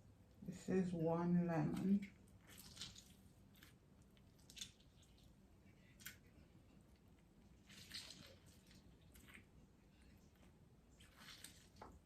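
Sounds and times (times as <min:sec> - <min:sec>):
faint wet squishes: 0:01.7 - 0:12.0.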